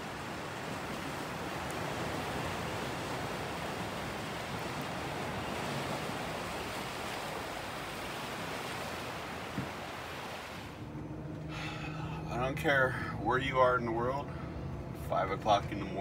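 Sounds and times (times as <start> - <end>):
ocean surf on rocky shore: 0.0 - 13.2.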